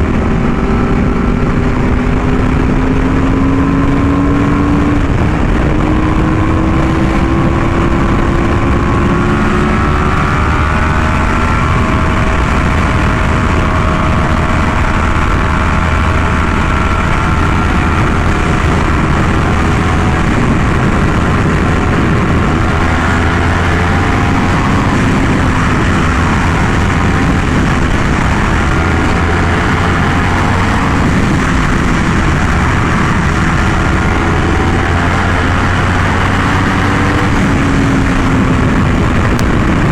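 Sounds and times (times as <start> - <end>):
low rumble of riding noise: 0.0 - 39.9
motorcycle engine cruising: 0.0 - 39.9.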